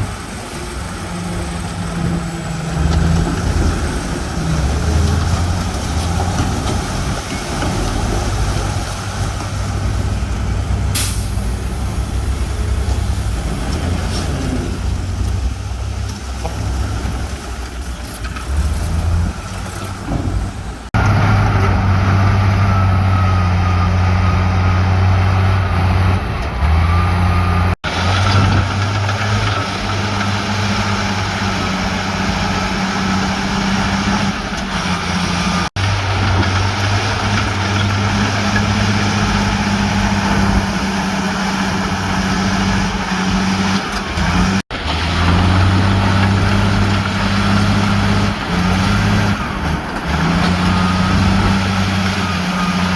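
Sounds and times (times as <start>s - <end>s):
heavy machinery diesel engines: 0.0s - 52.9s.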